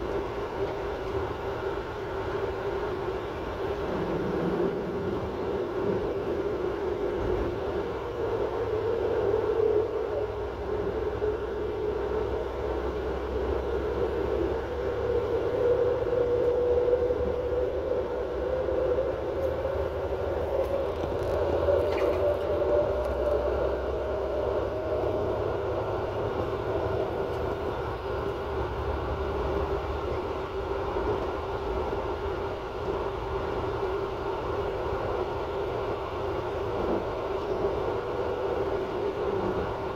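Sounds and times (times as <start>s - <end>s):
train running at speed: 0.0s - 39.9s.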